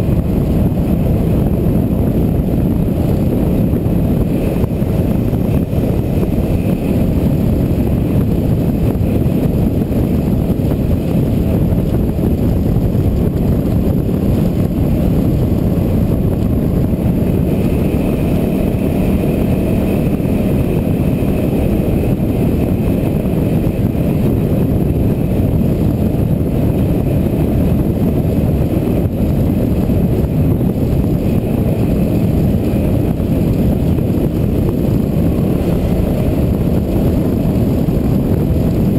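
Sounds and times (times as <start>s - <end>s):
motorcycle engine rumble: 0.0s - 38.9s
wind noise on microphone: 0.0s - 38.9s.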